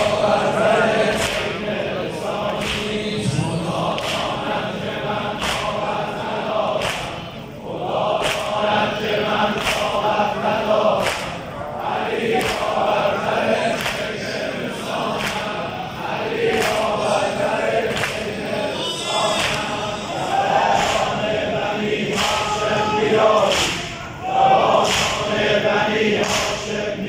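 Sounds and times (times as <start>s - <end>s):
crowd of men chanting: 0.0s - 27.0s
lead singer chanting: 0.0s - 27.0s.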